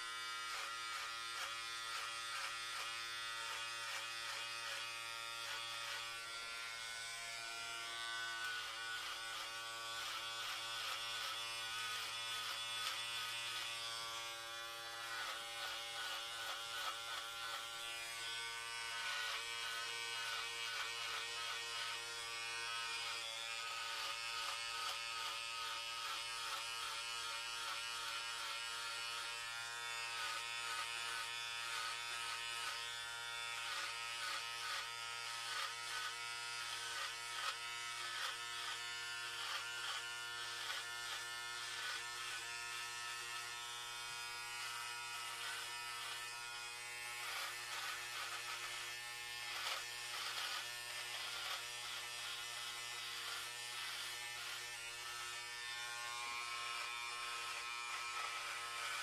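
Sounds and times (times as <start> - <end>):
electric hair clippers buzzing: 0.0 - 59.0.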